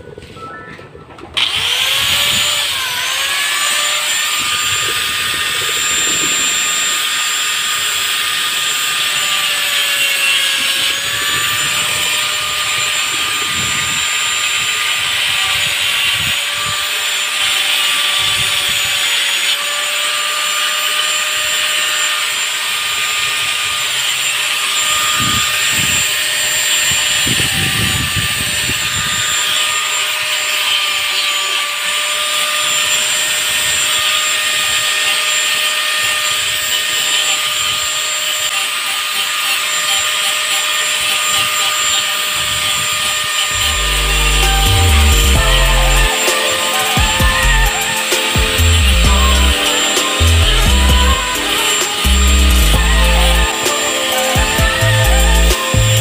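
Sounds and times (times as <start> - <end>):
power tool high whine: 1.4 - 56.0.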